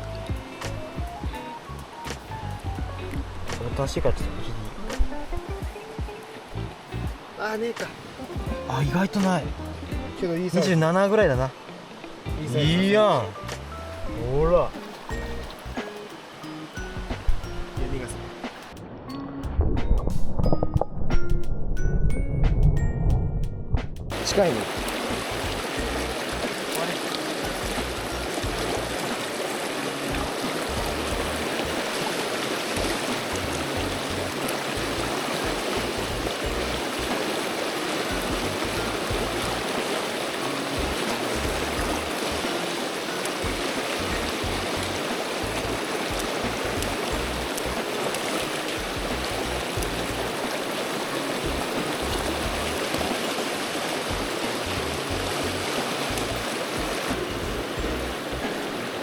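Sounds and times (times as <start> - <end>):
stream water rushing: 0.0 - 19.2, 24.1 - 59.0.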